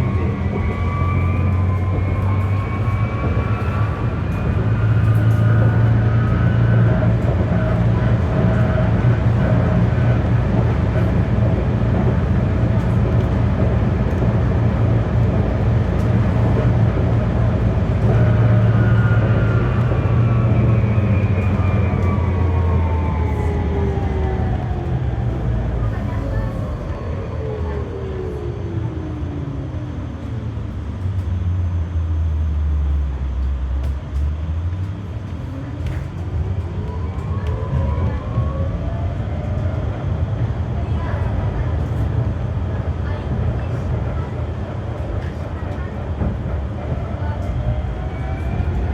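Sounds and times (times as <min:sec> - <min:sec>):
tram running hum: 0:00.0 - 0:48.9.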